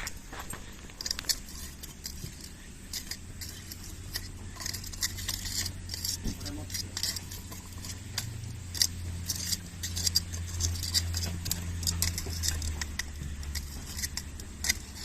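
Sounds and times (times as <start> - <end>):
low steady hum: 0.0 - 15.0
small hard parts clicking: 0.0 - 15.0.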